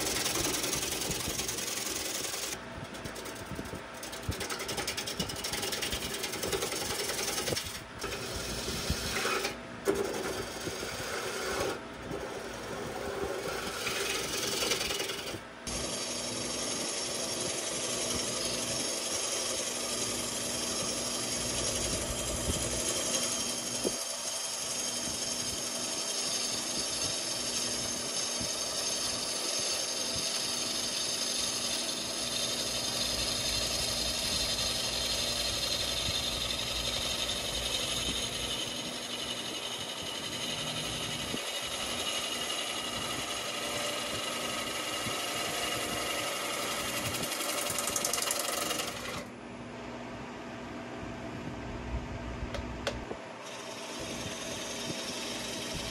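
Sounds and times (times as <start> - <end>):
gouge scraping wood on a lathe: 0.0 - 49.3, 53.4 - 55.9
lathe motor humming: 0.0 - 49.3, 52.8 - 55.9.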